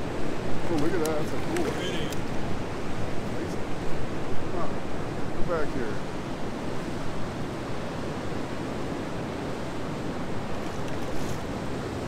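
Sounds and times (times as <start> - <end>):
river water rushing: 0.0 - 12.0
wind: 0.0 - 12.0.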